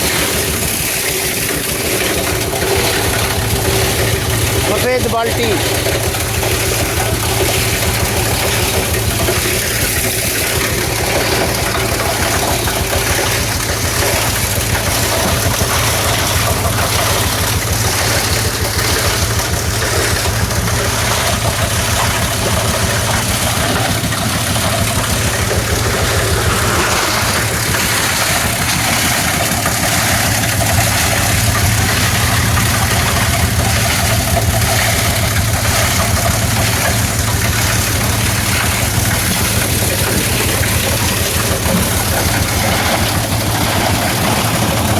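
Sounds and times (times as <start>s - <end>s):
plastic grinding machine: 0.0s - 44.9s
tractor diesel engine running: 0.0s - 44.9s.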